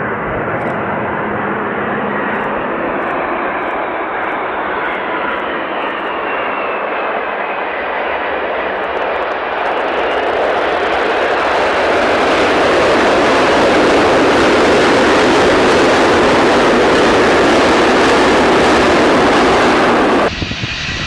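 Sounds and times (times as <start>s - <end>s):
jet engines rushing with whine: 0.0s - 21.0s.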